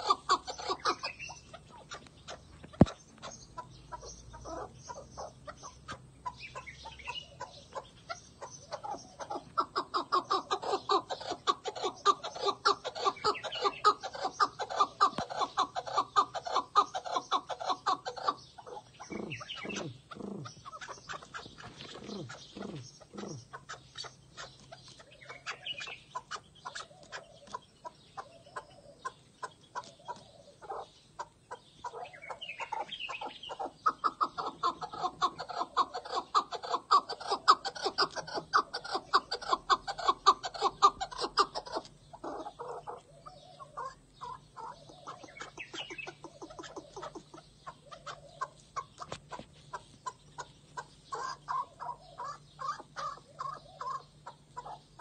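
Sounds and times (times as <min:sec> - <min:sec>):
partridge rapid clucking calls: 0:00.0 - 0:55.0.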